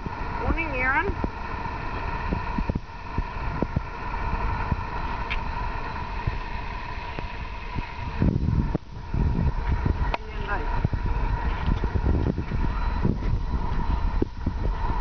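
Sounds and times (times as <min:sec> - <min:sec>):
mechanical hum with low rumble: 0:00.0 - 0:15.0.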